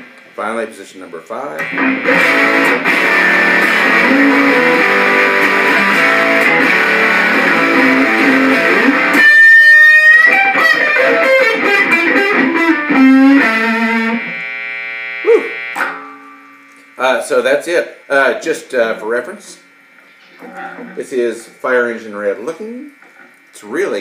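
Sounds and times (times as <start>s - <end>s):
distorted electric guitar: 1.5s - 24.0s.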